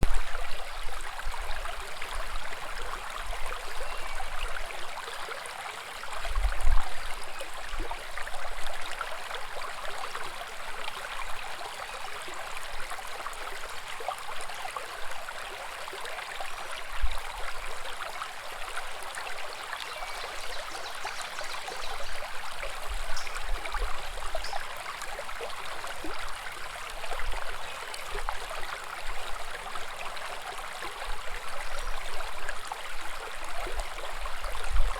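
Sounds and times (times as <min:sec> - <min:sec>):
brook babbling over rocks: 0:00.0 - 0:34.9.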